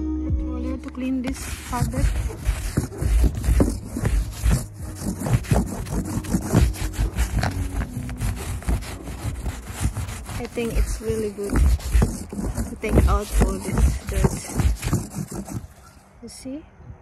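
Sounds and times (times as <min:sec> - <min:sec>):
lint roller rubbing fabric: 0:00.8 - 0:16.0.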